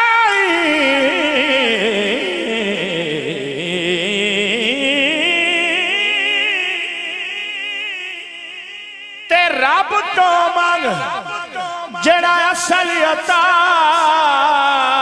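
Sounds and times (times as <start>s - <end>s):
man singing ornamented melisma: 0.0s - 15.0s.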